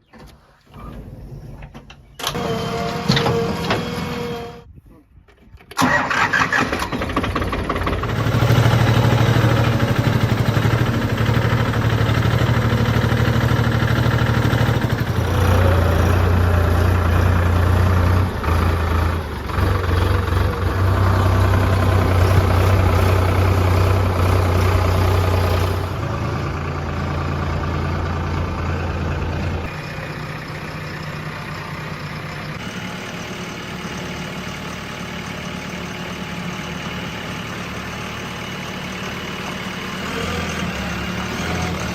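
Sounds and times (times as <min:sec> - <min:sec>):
heavy diesel engines running: 0:01.7 - 0:04.7, 0:05.7 - 0:41.9.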